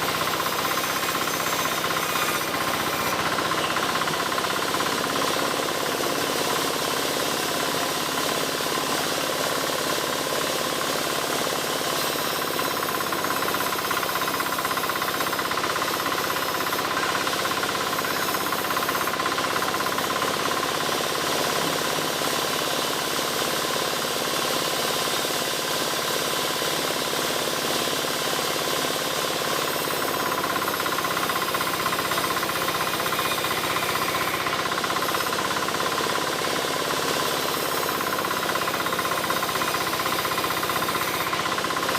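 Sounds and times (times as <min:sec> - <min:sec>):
engine-driven wood saw cutting: 0:00.0 - 0:41.9.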